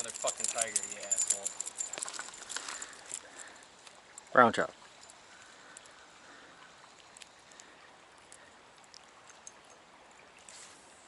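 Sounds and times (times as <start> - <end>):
flowing stream: 0.0 - 11.0.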